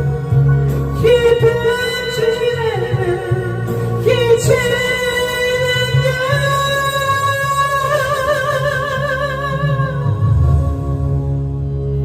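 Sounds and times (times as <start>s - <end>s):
rock ballad backing track: 0.0s - 12.0s.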